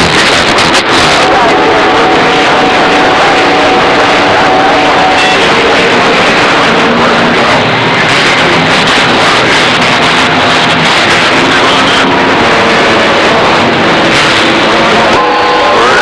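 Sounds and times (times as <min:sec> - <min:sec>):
radio static rushing: 0:00.0 - 0:16.0.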